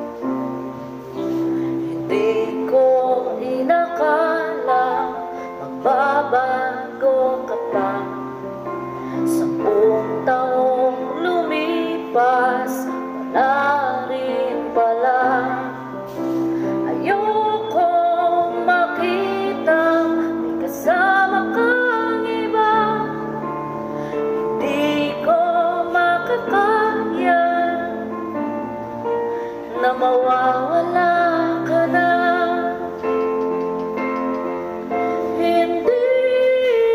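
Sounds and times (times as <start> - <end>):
instrumental accompaniment: 0.0 - 36.9
woman singing: 1.7 - 33.3, 34.9 - 36.9.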